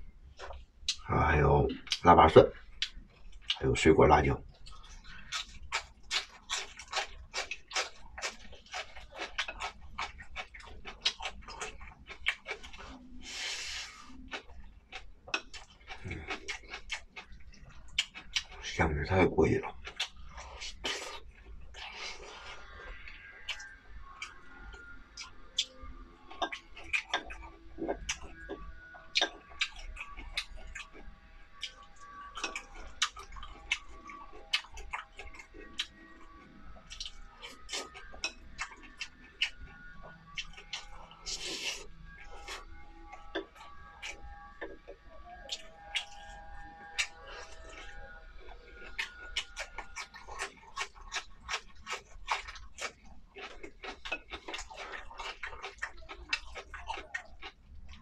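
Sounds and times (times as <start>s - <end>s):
person chewing food: 0.2s - 1.0s, 1.7s - 3.7s, 4.4s - 58.0s.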